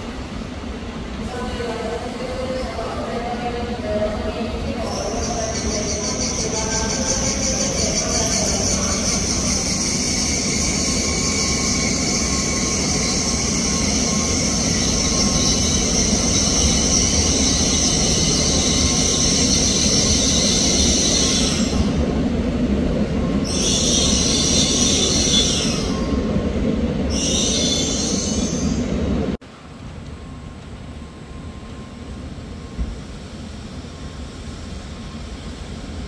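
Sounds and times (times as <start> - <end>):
train rumbling: 0.0 - 36.0
high train squeal: 1.2 - 22.2, 23.1 - 29.4, 30.2 - 36.0.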